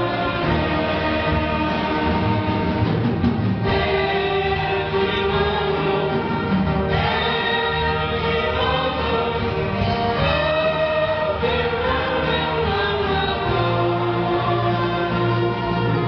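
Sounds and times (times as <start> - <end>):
orchestra playing a slow hymn: 0.0 - 16.0.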